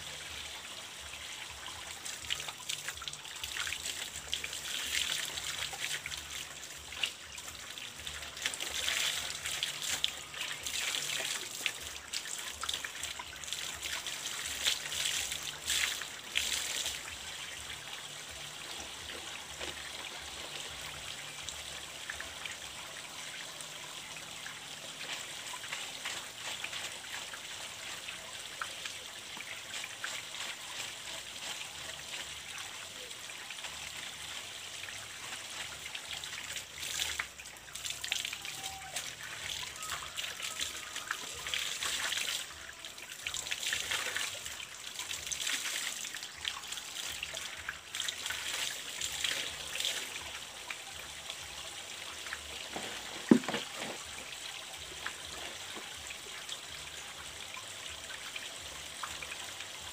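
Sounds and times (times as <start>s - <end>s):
water trickling from pipe: 0.0s - 59.9s.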